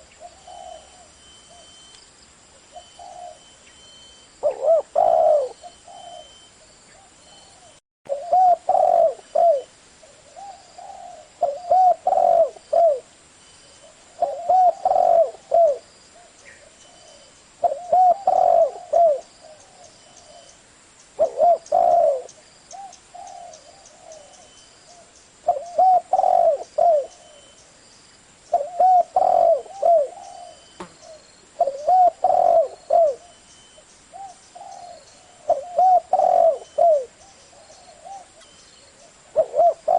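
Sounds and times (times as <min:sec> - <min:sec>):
dove cooing: 0:00.0 - 0:01.8, 0:02.7 - 0:03.6, 0:04.4 - 0:13.1, 0:13.8 - 0:20.5, 0:21.2 - 0:27.6, 0:28.5 - 0:33.4, 0:34.1 - 0:39.9.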